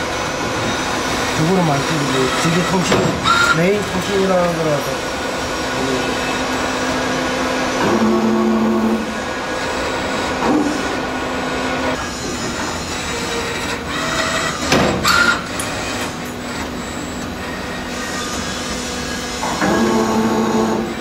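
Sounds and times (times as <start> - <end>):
machine whirring with motor hum: 0.0 - 21.0.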